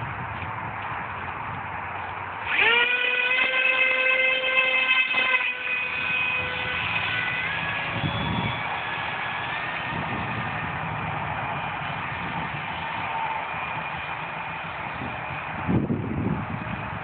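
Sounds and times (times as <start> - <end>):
electric motor propeller whine: 0.0 - 17.0.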